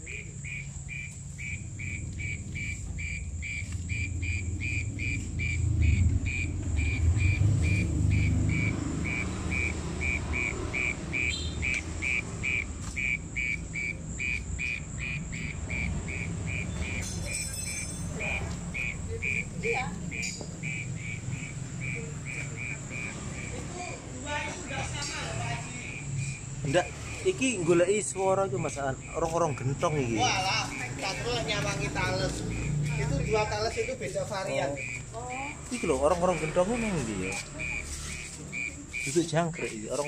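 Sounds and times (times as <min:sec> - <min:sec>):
insect chirping: 0:00.0 - 0:40.0.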